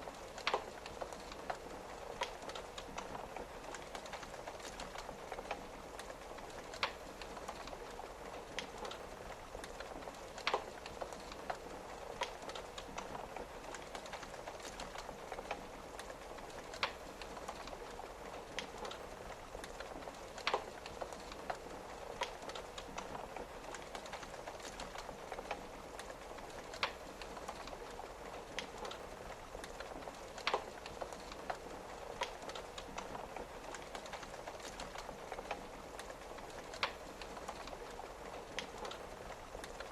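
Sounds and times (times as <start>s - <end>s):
rain pattering on a window: 0.0s - 39.9s
wood fire crackling and popping: 0.0s - 39.9s.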